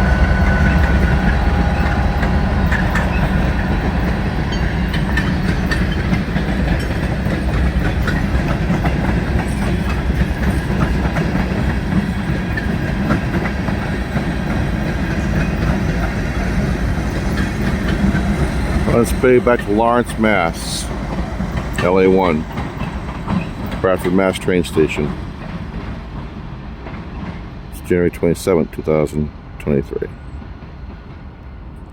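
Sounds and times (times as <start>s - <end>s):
wheels clacking over rails: 0.0s - 28.3s
freight train rumbling past: 0.0s - 31.9s.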